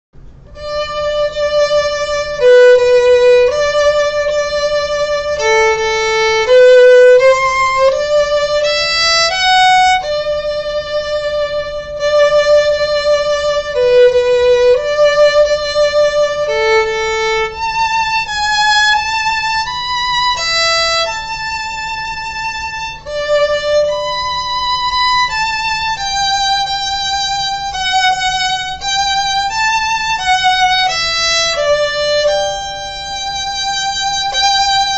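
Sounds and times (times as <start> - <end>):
solo violin slow melody: 0.3 - 34.9.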